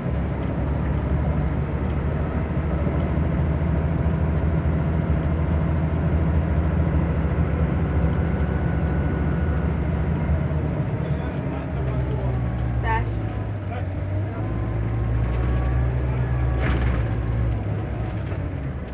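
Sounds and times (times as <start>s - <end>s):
diesel bus engine droning: 0.0s - 18.9s.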